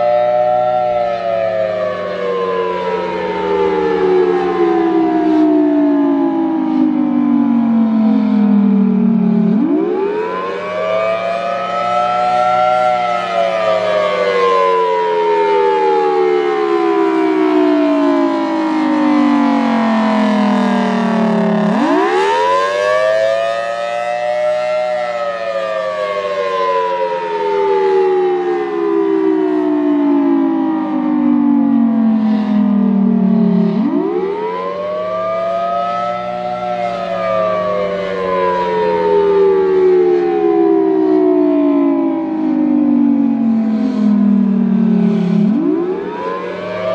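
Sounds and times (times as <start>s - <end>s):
warning siren rising and falling: 0.0s - 46.9s.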